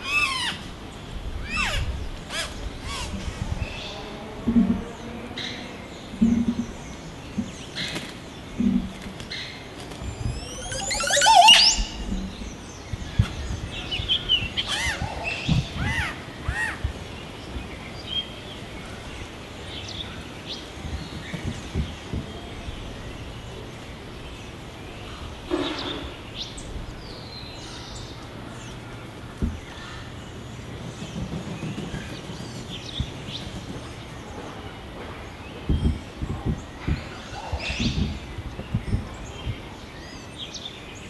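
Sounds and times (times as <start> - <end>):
quieter bird calls: 0.0 - 41.0.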